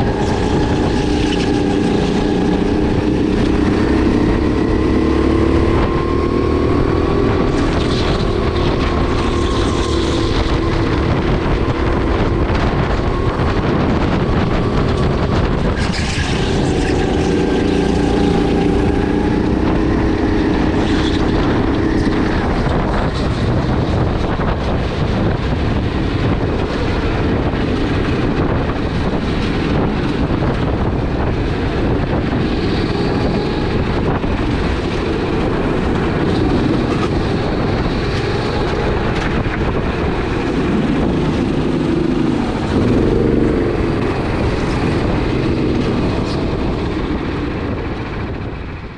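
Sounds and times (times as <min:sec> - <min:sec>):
kart engine revving: 0:00.0 - 0:48.5
wind buffeting microphone: 0:00.0 - 0:48.9.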